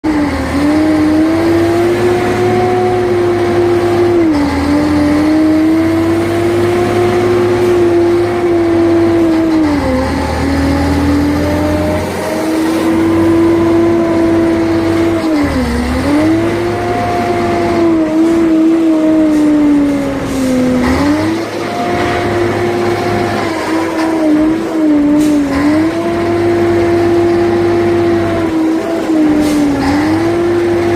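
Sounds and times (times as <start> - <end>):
truck diesel engine droning: 0.0 - 30.9.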